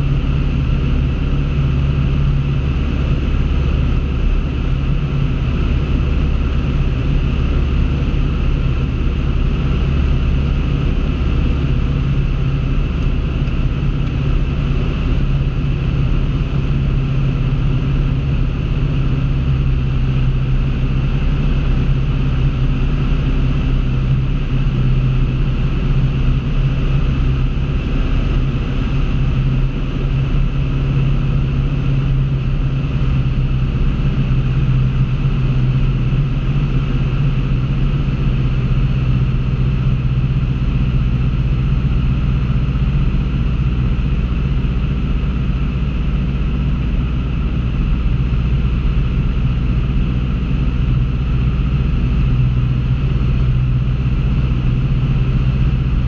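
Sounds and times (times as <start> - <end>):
light airplane engine droning: 0.0 - 56.0.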